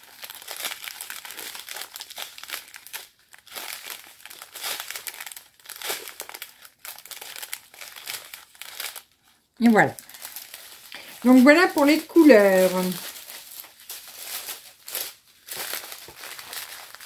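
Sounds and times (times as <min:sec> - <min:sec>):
plastic bags crinkling: 0:00.0 - 0:17.0.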